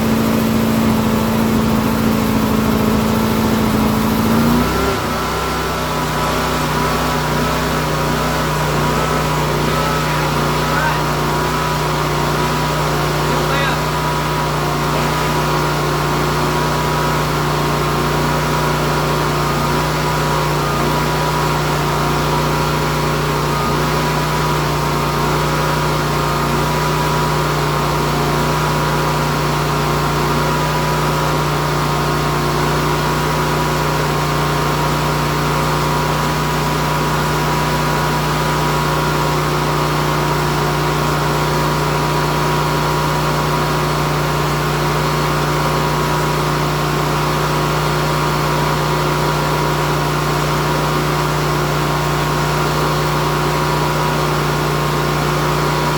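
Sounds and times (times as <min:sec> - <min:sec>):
generator engine humming: 0:00.0 - 0:55.9.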